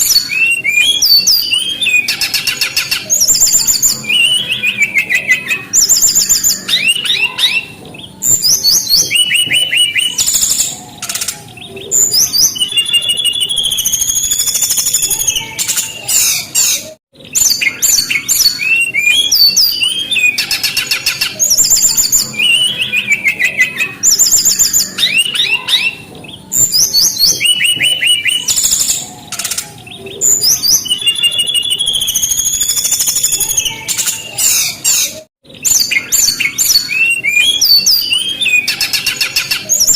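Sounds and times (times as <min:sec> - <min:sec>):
bird song with chirps and trills: 0:00.0 - 0:39.9.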